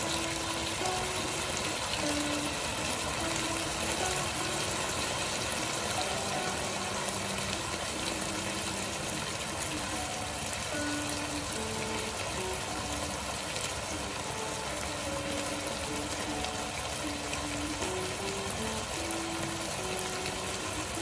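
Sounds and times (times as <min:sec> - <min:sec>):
meat sizzling in a wok: 0:00.0 - 0:21.0.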